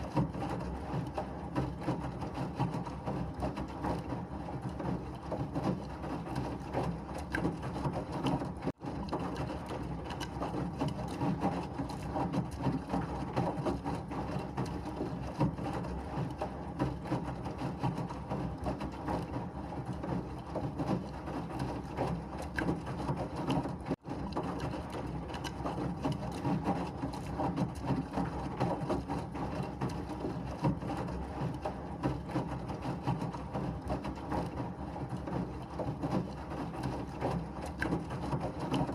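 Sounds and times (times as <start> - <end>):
washing machine churning: 0.0 - 38.9.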